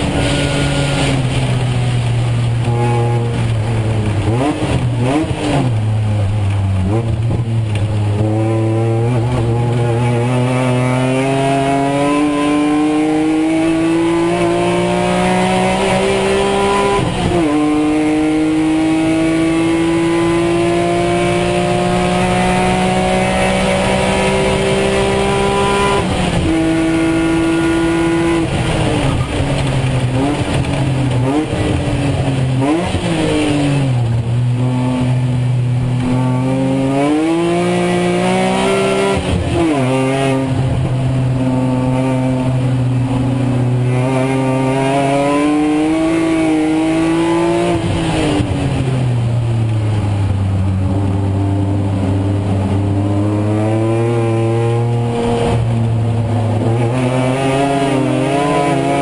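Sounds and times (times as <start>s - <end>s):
race car engine at full load: 0.0s - 59.0s
road and wind noise: 0.0s - 59.0s.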